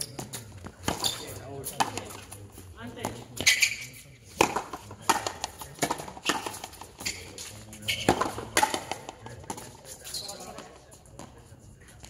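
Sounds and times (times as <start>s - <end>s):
rackets striking ball: 0.0s - 9.7s.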